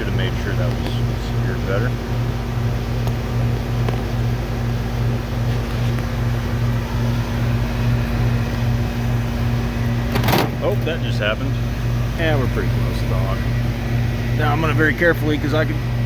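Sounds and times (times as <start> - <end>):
fan air noise: 0.0 - 16.0
throbbing compressor hum: 0.0 - 16.0.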